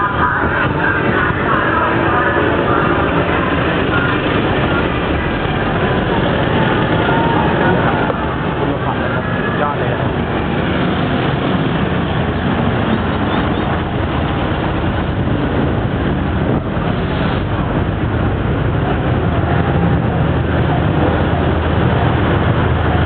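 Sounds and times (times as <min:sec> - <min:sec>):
car and bus engines: 0:00.0 - 0:23.0
street traffic: 0:00.0 - 0:23.0
wind on microphone: 0:00.0 - 0:23.0.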